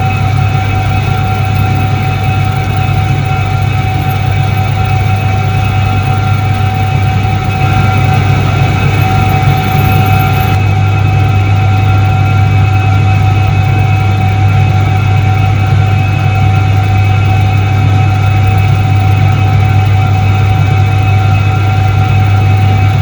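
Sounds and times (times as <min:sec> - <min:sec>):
washing machine motor drone: 0:00.0 - 0:23.0.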